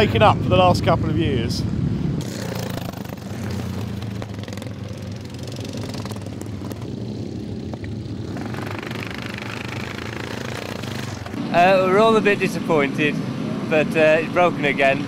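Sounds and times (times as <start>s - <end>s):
lawnmower engines droning: 0.0s - 15.0s.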